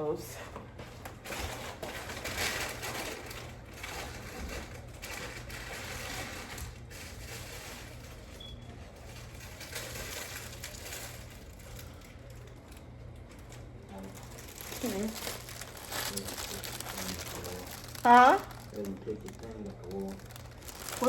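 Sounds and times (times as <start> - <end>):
packaging rustling and crunching: 1.3 - 8.3, 9.1 - 21.0
steady low hum: 2.3 - 21.0.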